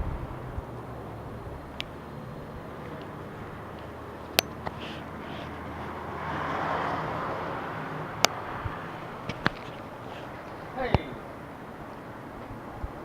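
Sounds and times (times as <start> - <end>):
passing vehicle rush: 0.0 - 13.0.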